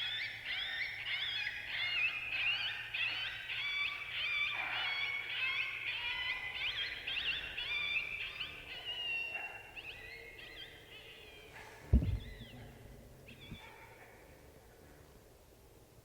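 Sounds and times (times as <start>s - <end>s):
coyote yips and howls: 0.0s - 14.5s.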